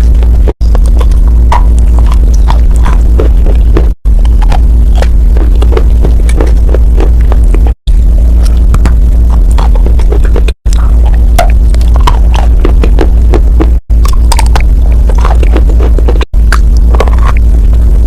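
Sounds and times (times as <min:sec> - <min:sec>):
crunching and chewing chalk: 0:00.0 - 0:18.0
steady low hum: 0:00.0 - 0:18.0.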